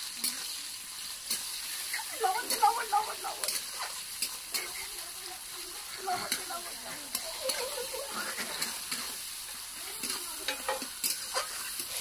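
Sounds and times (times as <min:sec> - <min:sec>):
onions sizzling in oil: 0:00.0 - 0:12.0
spatula scraping metal pan: 0:01.3 - 0:05.0, 0:05.8 - 0:12.0.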